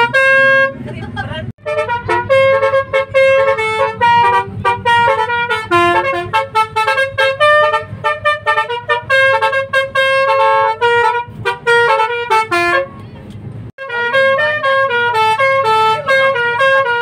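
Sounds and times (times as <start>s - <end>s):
multi-tone bus horn tune: 0.0s - 13.1s, 13.8s - 17.0s.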